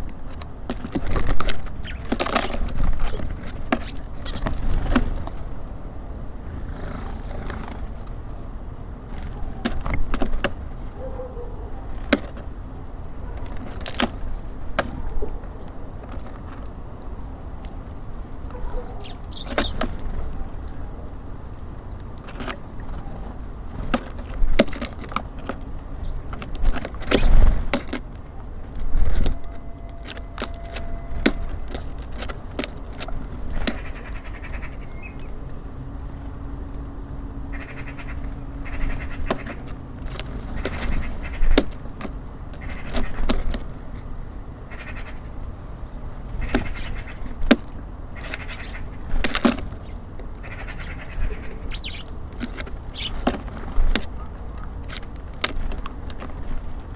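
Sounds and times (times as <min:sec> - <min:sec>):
birds pecking at feeder: 0:00.0 - 0:05.6, 0:06.6 - 0:44.0, 0:46.3 - 0:56.9
city traffic rumble: 0:00.0 - 0:56.9.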